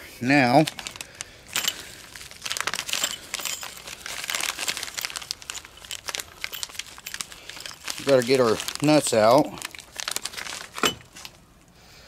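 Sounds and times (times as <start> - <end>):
plastic bag crinkling: 0.2 - 11.4.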